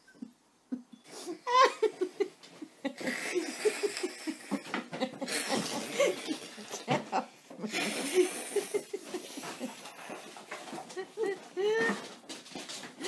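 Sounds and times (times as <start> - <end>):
person laughing: 0.1 - 12.1.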